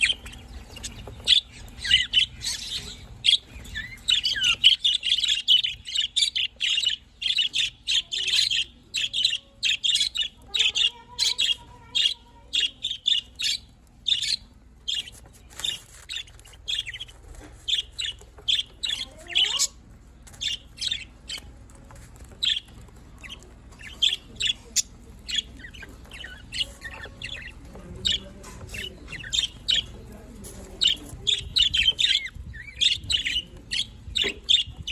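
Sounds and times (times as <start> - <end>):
budgerigars chattering: 0.0 - 21.6, 22.2 - 34.9.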